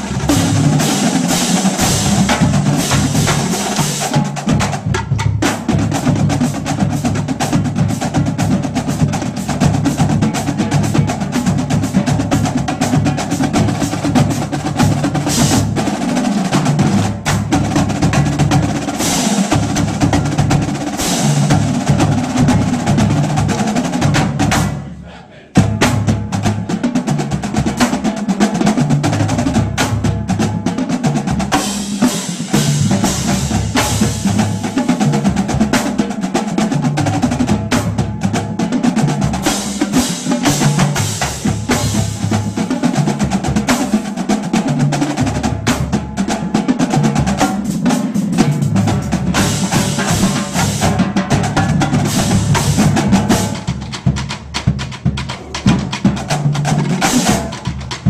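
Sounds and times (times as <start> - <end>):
marching drumline: 0.0 - 58.0.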